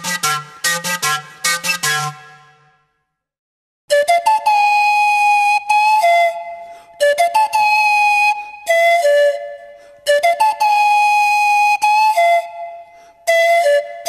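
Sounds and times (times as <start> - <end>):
flute-like wind instrument melody: 0.0 - 2.8, 3.9 - 14.0.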